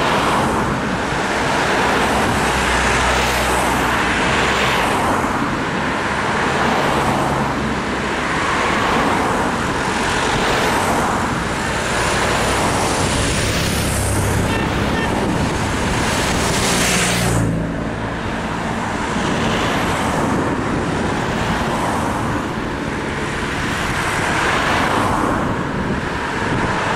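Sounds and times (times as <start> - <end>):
cars driving past: 0.0 - 26.9.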